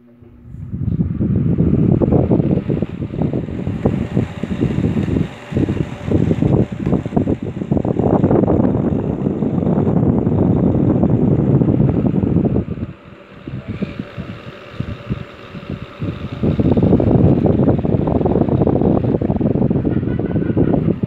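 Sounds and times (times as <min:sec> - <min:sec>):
fan air rushing on microphone: 0:00.0 - 0:21.0
fan running hum: 0:00.0 - 0:21.0.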